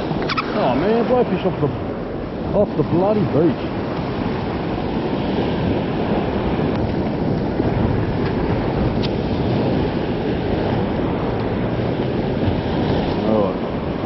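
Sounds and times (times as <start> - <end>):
small waves breaking on sand: 0.0 - 14.0
wind buffeting microphone: 0.0 - 14.0.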